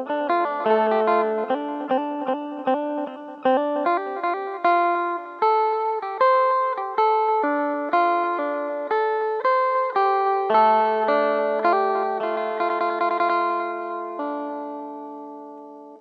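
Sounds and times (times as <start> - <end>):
plucked lute melody: 0.0 - 16.0.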